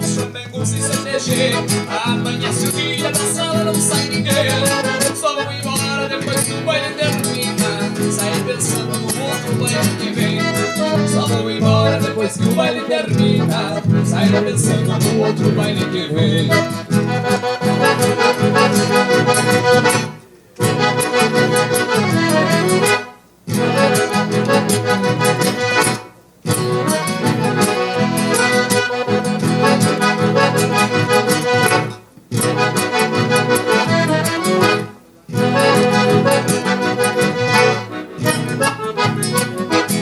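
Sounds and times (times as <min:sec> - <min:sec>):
accordion dance tune: 0:00.0 - 0:40.0.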